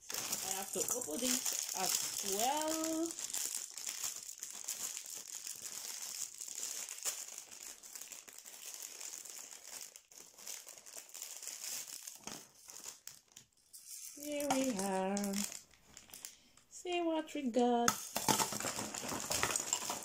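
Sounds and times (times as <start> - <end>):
plastic packaging crinkling: 0.0 - 16.6, 17.9 - 20.0.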